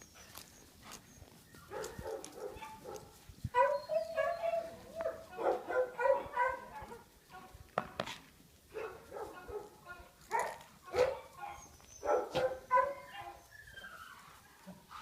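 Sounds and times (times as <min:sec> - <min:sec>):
dogs barking and yelping: 0:00.0 - 0:07.1, 0:08.7 - 0:15.0.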